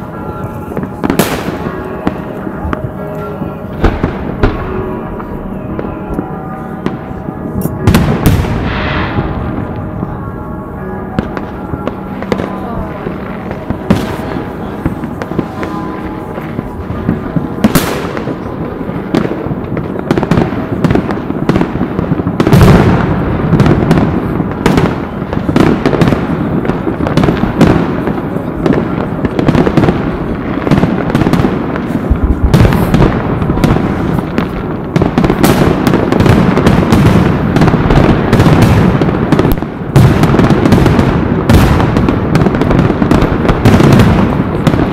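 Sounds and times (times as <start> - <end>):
fireworks crackling: 0.0 - 44.9
loud fireworks bangs: 0.0 - 44.9.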